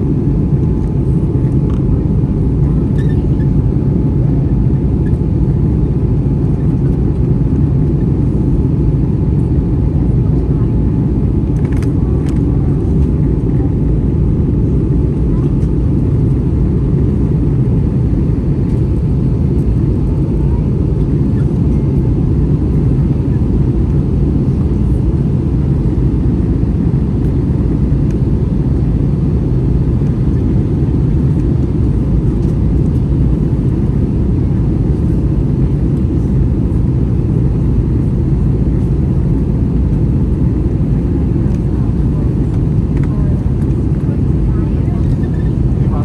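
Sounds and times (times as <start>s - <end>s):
airplane cabin engine drone: 0.0s - 46.0s.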